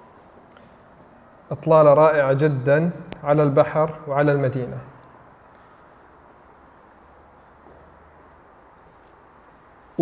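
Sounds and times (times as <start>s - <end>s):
distant city ambience: 0.0s - 10.0s.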